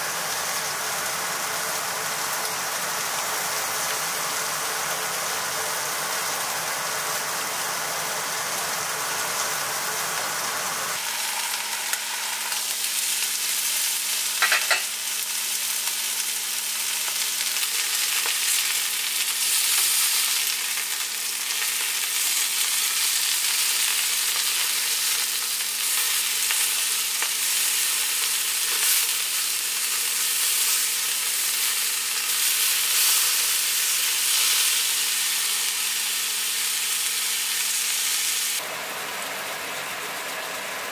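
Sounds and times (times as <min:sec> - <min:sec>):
meat sizzling in a frying pan: 0:00.0 - 0:40.9.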